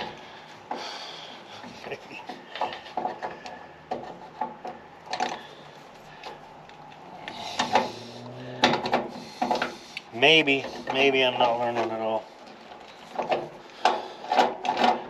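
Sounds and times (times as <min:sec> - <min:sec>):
hand tool and metal parts clicking: 0:01.6 - 0:15.0.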